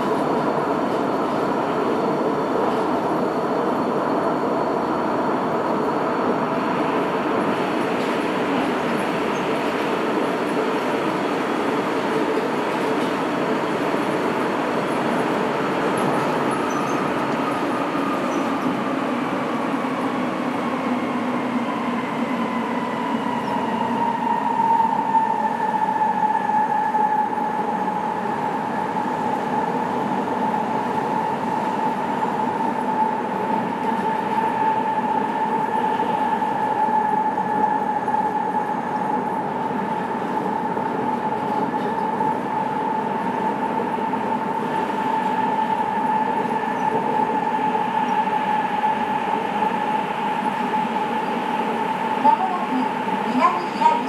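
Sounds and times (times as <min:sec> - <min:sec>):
train rolling rumble: 0:00.0 - 0:54.0
train whine: 0:00.0 - 0:54.0.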